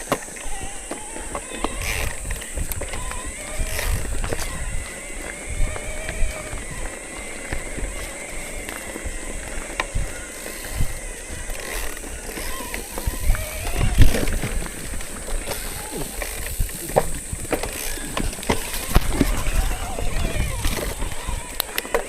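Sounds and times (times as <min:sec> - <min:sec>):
bicycle knocks and rattles: 0:00.0 - 0:22.0
wind rumble on microphone: 0:00.4 - 0:21.8.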